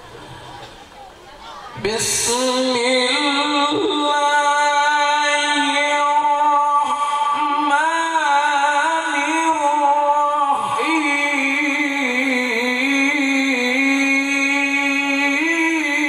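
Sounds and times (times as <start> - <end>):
man chanting through a microphone: 1.8 - 16.0.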